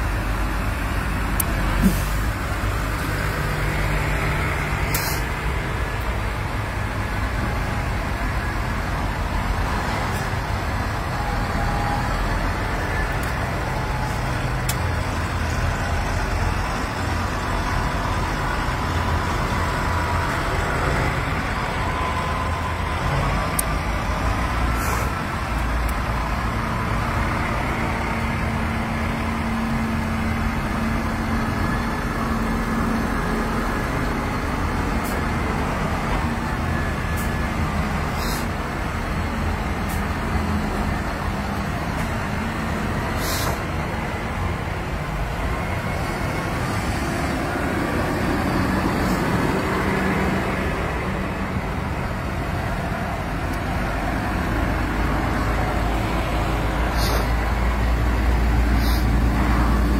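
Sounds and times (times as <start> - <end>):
steady engine drone: 0.0 - 59.9
tractor engines rumbling: 0.0 - 59.9.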